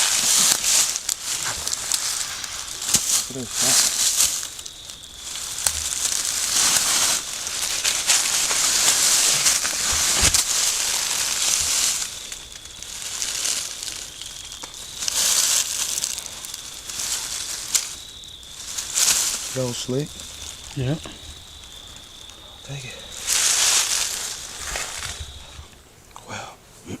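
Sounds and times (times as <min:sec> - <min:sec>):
loud rustling and crinkling: 0:00.0 - 0:25.8
sharp crackles: 0:00.0 - 0:26.3.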